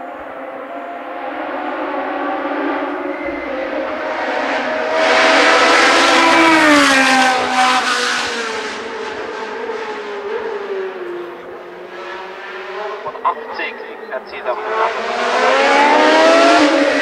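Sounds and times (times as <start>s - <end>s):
race car passing at speed: 0.0s - 17.0s.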